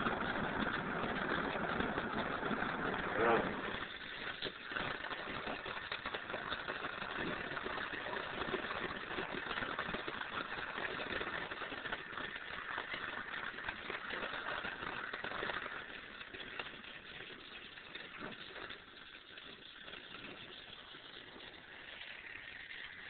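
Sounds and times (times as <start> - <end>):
gas torch flame hissing: 0.0 - 10.2, 10.9 - 23.0.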